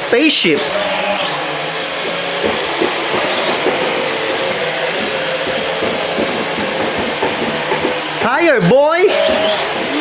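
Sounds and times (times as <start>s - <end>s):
quadcopter motors whining: 0.0s - 10.0s.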